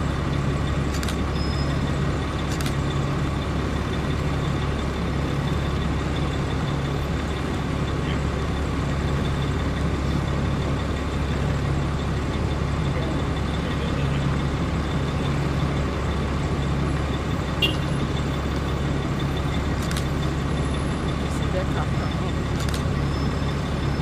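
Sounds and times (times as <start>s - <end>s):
vehicles rolling slowly past: 0.0s - 24.0s.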